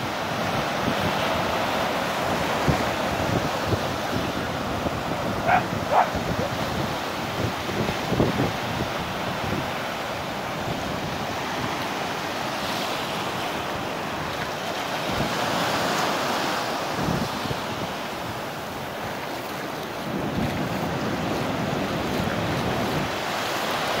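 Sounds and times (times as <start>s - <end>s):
waves breaking on sand: 0.0s - 24.0s
wind buffeting microphone: 0.0s - 24.0s.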